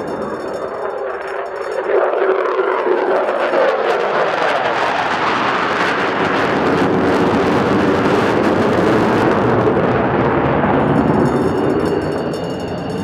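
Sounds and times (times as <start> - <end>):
jet flying past overhead: 0.0 - 13.0.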